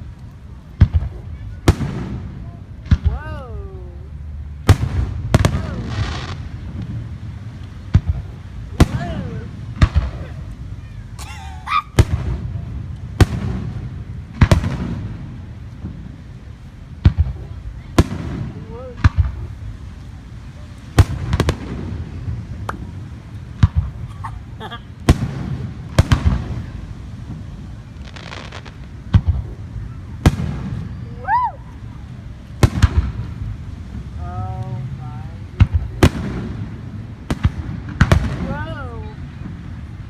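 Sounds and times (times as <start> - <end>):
fireworks bursting bangs: 0.0 - 40.0.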